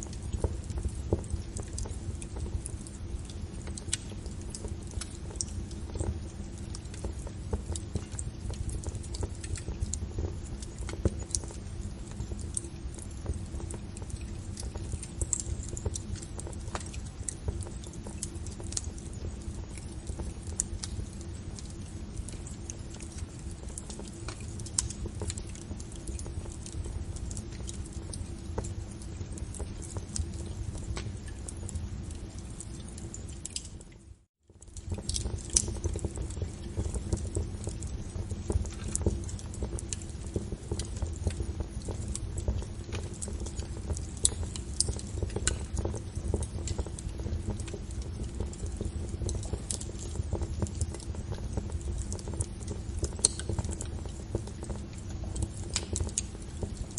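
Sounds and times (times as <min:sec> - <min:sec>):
low steady rumble: 0:00.0 - 0:56.9
wood fire crackling and popping: 0:00.0 - 0:56.9.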